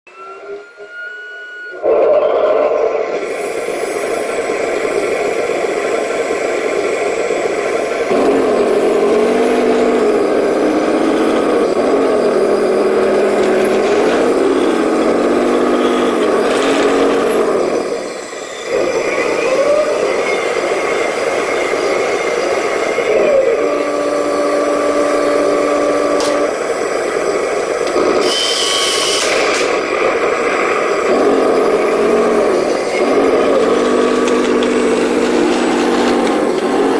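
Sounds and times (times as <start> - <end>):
toy tank engine noise: 1.8 - 36.9.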